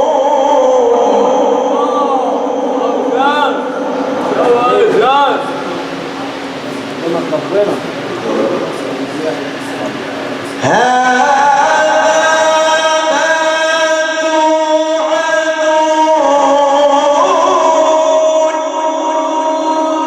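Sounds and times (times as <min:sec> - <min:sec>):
man chanting long melodic note: 0:00.0 - 0:20.0.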